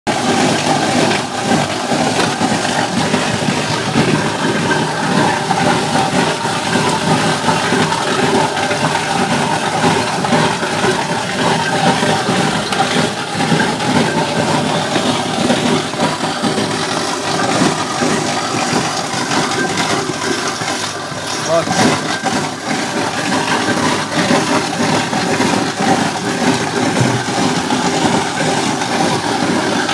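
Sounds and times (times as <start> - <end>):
conveyor motor noise: 0.1 - 29.9.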